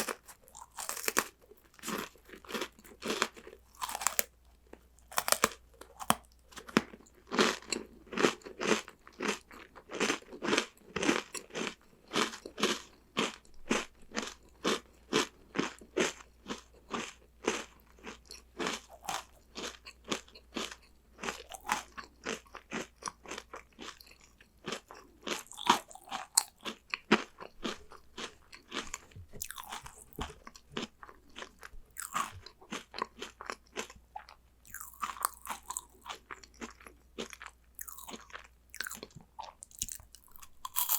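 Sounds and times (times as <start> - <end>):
crunching snacks: 0.0 - 40.9.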